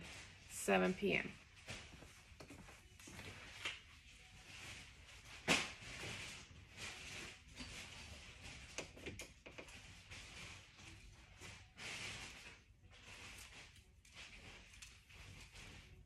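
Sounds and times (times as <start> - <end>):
soft rustling: 0.0 - 16.0.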